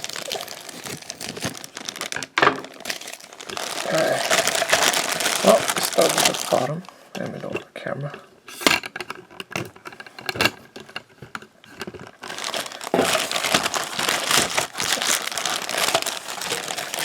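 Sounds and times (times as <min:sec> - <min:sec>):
plastic packaging crinkling: 0:00.0 - 0:06.9, 0:09.1 - 0:17.0.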